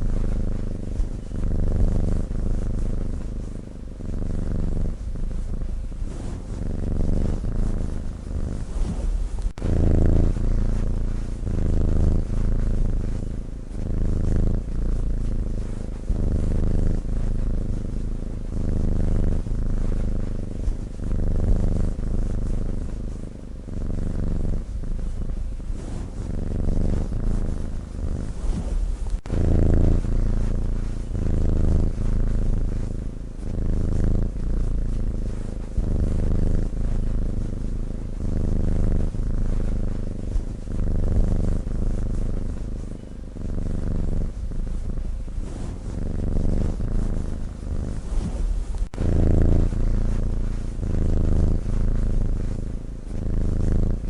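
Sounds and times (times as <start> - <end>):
cat breathing with low rumble: 0.0 - 54.0.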